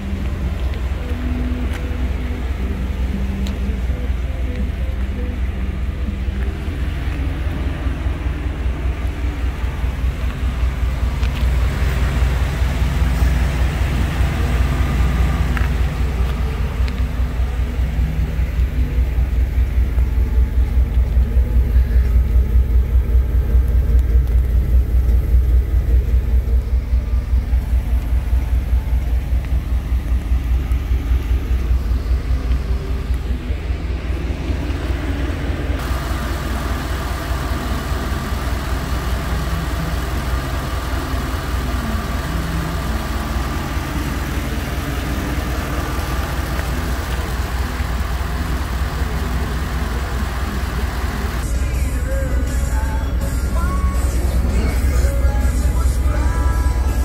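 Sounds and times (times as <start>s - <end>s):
pickup truck engine idling: 0.0s - 57.0s.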